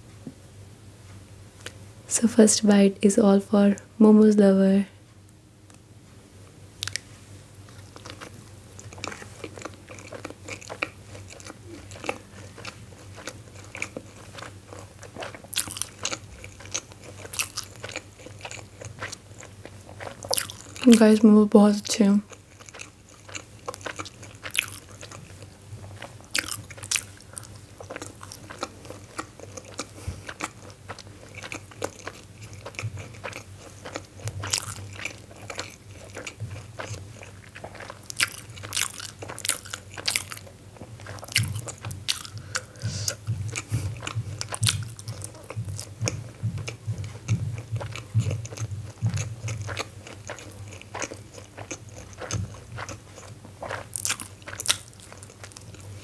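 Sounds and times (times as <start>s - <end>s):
chewing food: 6.8s - 56.0s.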